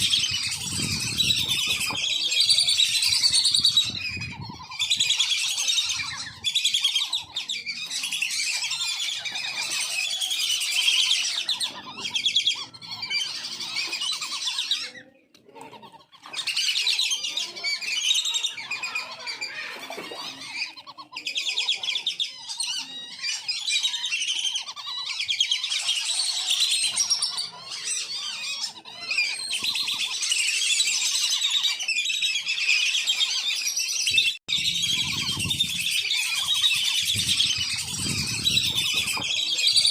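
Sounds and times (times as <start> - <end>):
ducks whistling and chattering: 0.0 - 39.9.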